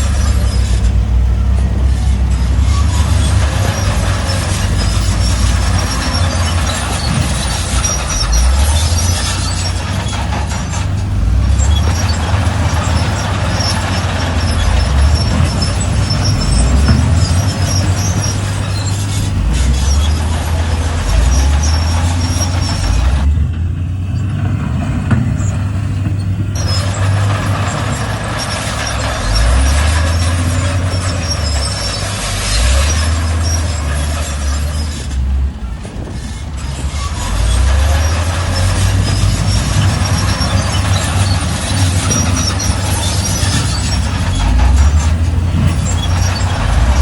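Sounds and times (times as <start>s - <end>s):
high-pitched metallic squeaks: 0.0s - 23.5s, 24.1s - 47.0s
bulldozer diesel engine under load: 0.0s - 47.0s
clatter and scraping: 0.0s - 47.0s.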